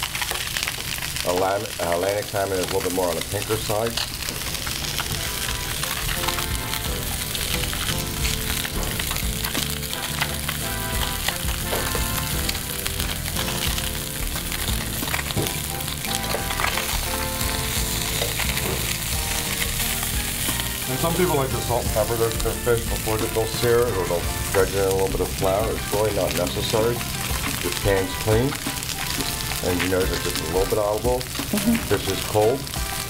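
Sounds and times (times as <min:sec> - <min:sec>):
fish sizzling in skillet: 0:00.0 - 0:33.0.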